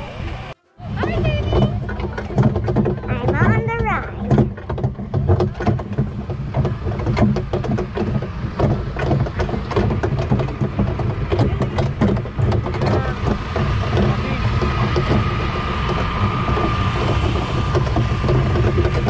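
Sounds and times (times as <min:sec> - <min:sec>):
cars rattling over rough ground: 0:00.0 - 0:19.0
tractor engine running: 0:00.0 - 0:19.0.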